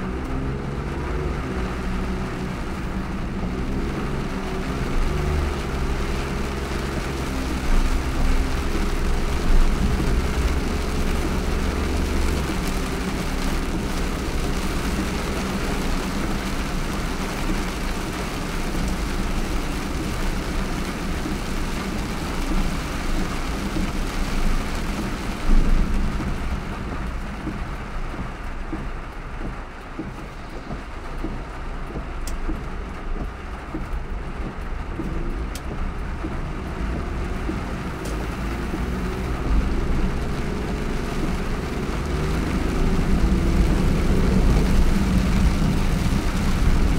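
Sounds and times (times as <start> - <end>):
low engine hum: 0.0 - 46.9
rain hissing: 0.0 - 46.9
wet road noise: 0.0 - 46.9.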